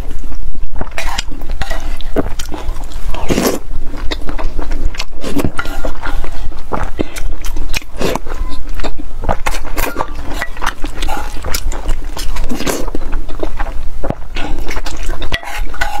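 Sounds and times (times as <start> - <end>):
wet chewing and slurping: 0.0 - 16.0.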